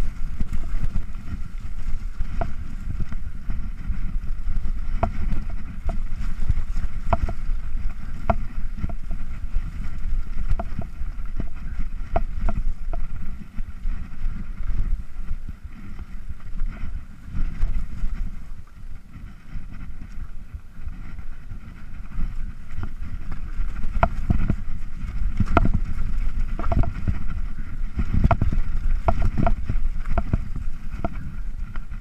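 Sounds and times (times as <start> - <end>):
bike rattling over rocks: 0.0 - 32.0
bike tyres rumbling: 0.0 - 32.0
wind buffeting microphone: 0.0 - 32.0.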